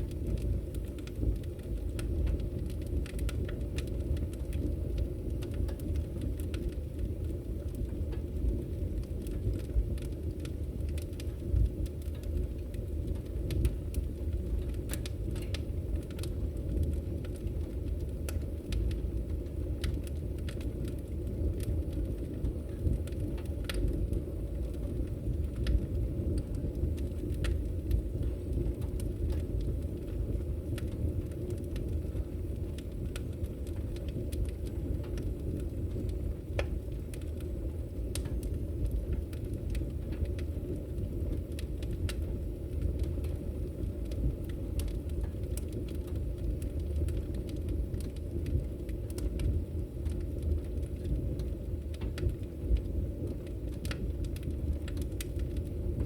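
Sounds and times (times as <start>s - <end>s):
fire crackling in fireplace: 0.0s - 56.0s.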